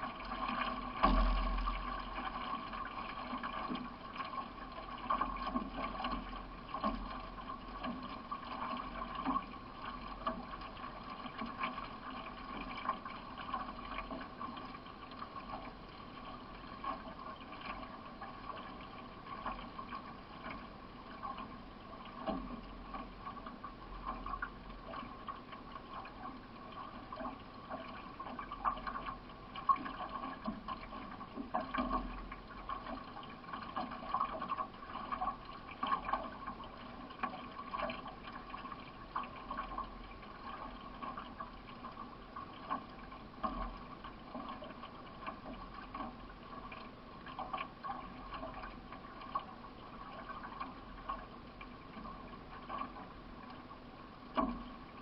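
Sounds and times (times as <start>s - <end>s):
paddle strokes splashing: 0.0s - 55.0s
water rushing along hull: 0.0s - 55.0s.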